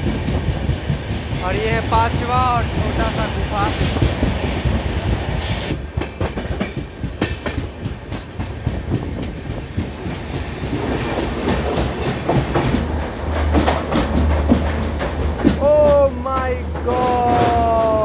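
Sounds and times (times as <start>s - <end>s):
train wheels clicking over rail joints: 0.0s - 2.9s, 3.6s - 18.0s
train rumble: 0.0s - 18.0s.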